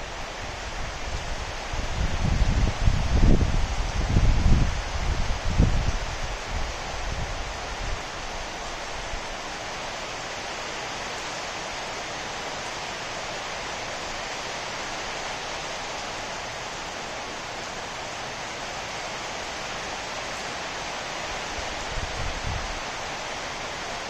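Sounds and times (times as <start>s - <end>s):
rain falling on foliage: 0.0s - 24.0s.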